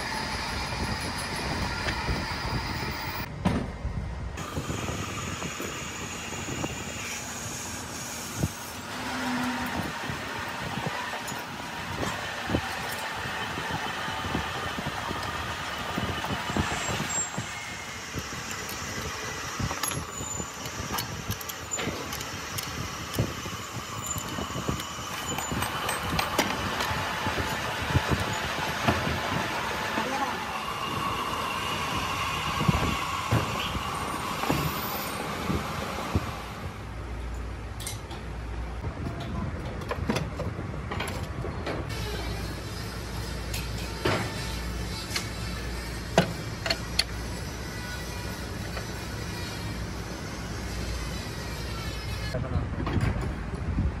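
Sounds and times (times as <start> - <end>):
workshop din: 4.4 - 35.6, 37.0 - 53.6.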